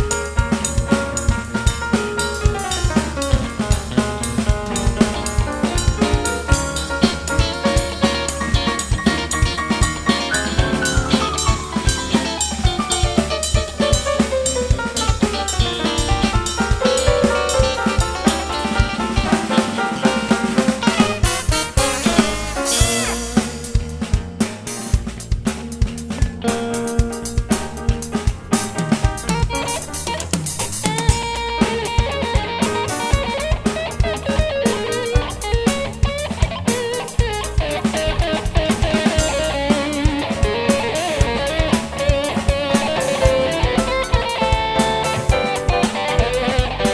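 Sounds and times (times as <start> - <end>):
drum kit beat: 0.0 - 46.9
guitar melody: 0.0 - 46.9.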